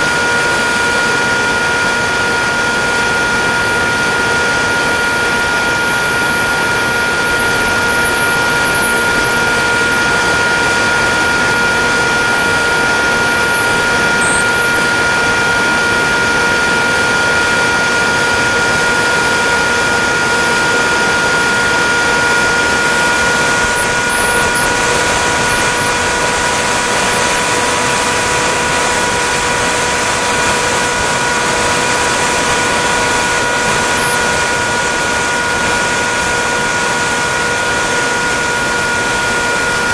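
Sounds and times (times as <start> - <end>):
electric motor whine: 0.0 - 39.9
high thin whine: 0.0 - 39.9.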